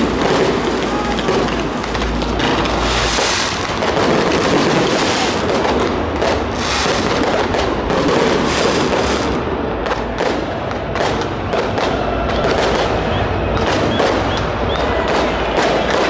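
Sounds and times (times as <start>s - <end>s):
continuous noise wash: 0.0s - 16.0s
fireworks bangs and crackles: 0.0s - 16.0s
sharp firework reports: 0.0s - 16.0s.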